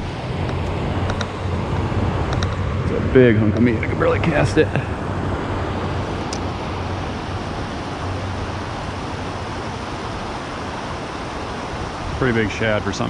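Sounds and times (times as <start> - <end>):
river water rushing: 0.0 - 13.0
wind rumble on microphone: 0.0 - 13.0.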